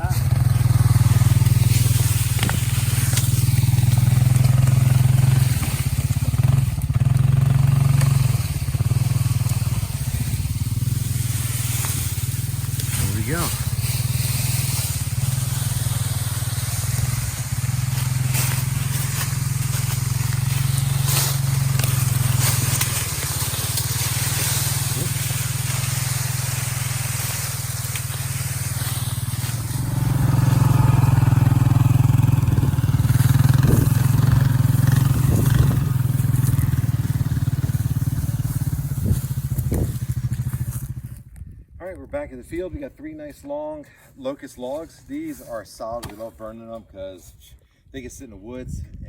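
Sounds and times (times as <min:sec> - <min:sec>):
atv engine running under load: 0:00.0 - 0:41.5.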